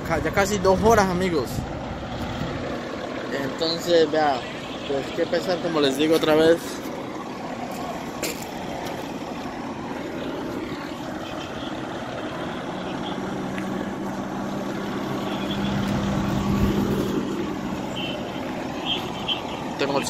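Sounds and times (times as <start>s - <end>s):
fire engines running: 0.0s - 20.0s.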